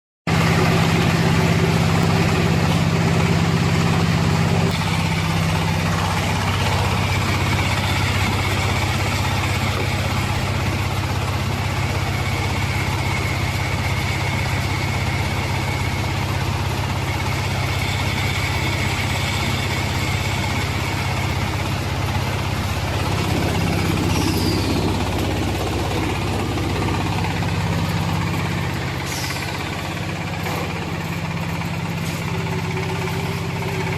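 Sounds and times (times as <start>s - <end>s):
engine low hum: 0.3s - 33.9s
machine whine: 0.3s - 33.9s.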